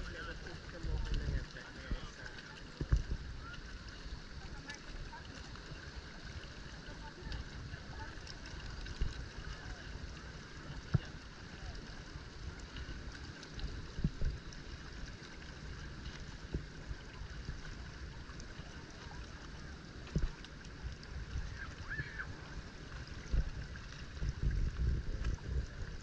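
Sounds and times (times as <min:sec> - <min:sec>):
steady low rumble: 0:00.0 - 0:26.0
water lapping against boat hull: 0:00.0 - 0:26.0.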